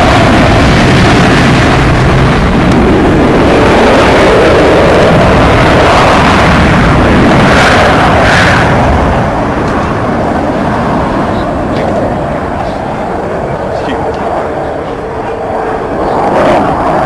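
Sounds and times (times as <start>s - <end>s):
jet bomber flying past low: 0.0s - 17.0s.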